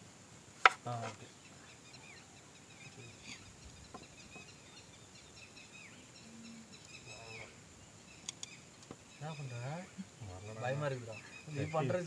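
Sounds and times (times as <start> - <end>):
faint small birds chirping: 0.8 - 12.0.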